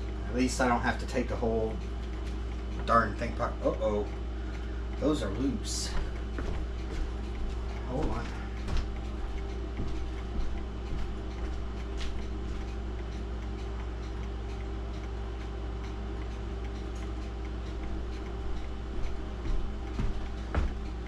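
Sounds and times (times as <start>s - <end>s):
low hum: 0.0s - 21.0s
pendulum clocks ticking: 0.0s - 21.0s.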